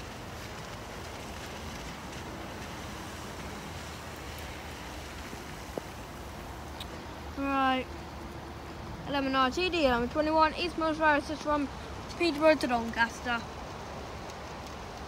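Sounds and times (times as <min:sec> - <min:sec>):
hard rain falling: 0:00.0 - 0:15.0.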